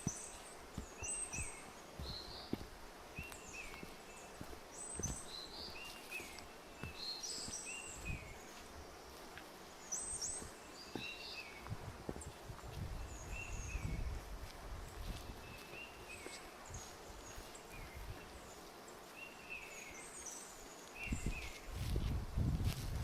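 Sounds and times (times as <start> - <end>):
birds chirping: 0.0 - 22.0
footsteps on forest trail: 0.0 - 23.0.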